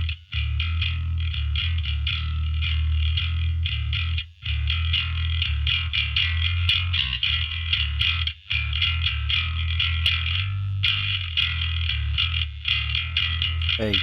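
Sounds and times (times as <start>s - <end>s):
distorted electric bass guitar: 0.0s - 14.0s.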